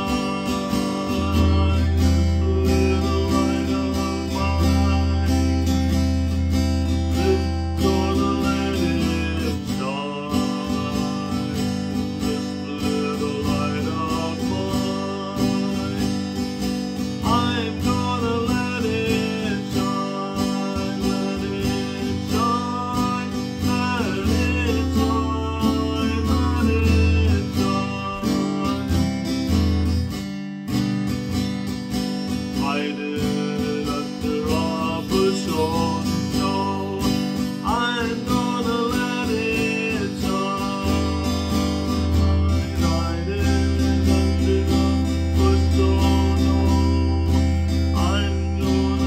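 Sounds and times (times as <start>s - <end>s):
acoustic guitar strumming: 0.0s - 49.0s
man singing: 0.0s - 49.0s.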